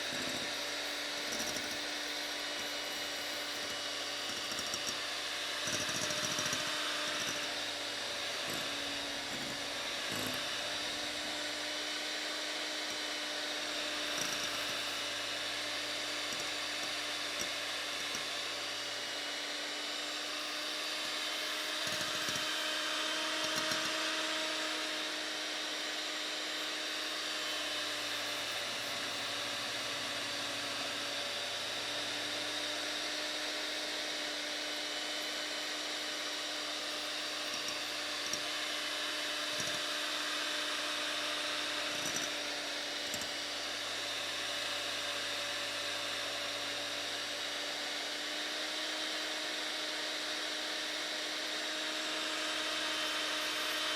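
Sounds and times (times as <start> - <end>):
electric hand mixer whining: 0.0 - 53.9.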